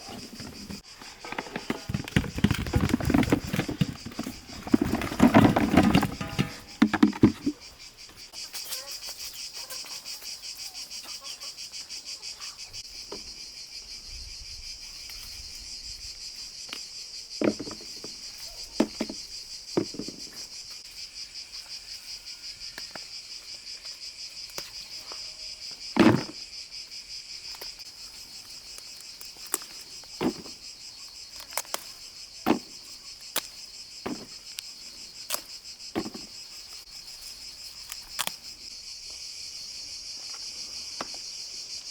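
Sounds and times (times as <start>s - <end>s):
crickets chirping: 0.0s - 41.9s.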